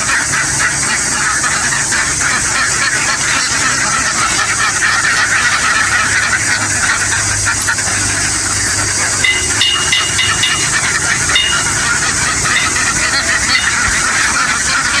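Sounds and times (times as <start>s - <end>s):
flock of ducks calling: 0.0s - 15.0s.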